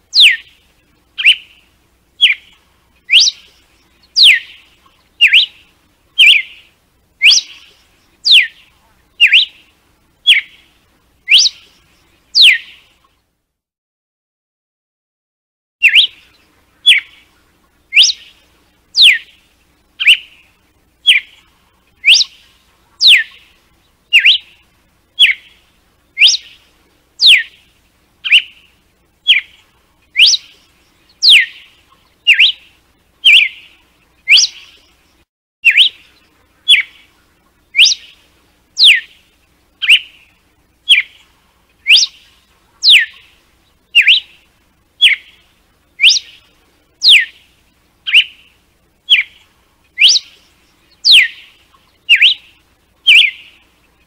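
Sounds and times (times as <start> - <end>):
bird whistling song: 0.1 - 13.0, 15.8 - 54.0.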